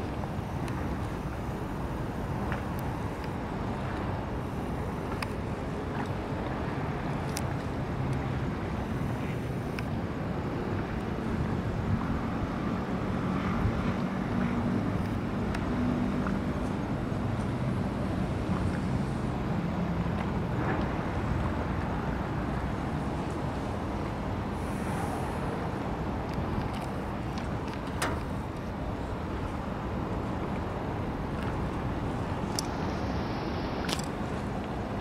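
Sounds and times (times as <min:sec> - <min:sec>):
distant city traffic rumble: 0:00.0 - 0:35.0.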